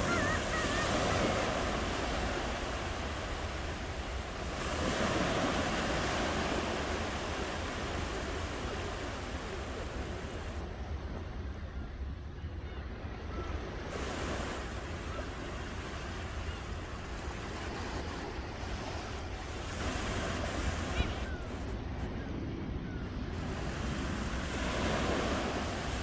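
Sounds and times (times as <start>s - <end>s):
ocean waves washing ashore: 0.0s - 26.0s.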